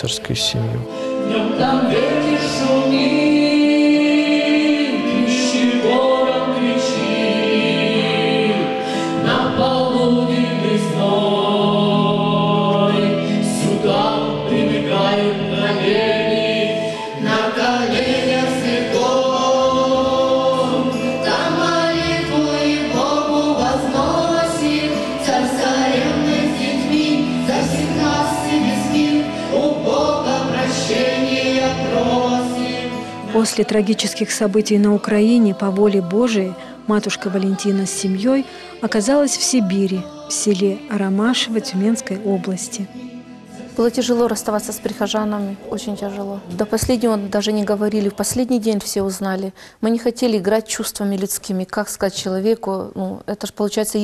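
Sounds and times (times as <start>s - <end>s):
group singing in parts: 0.9s - 48.8s.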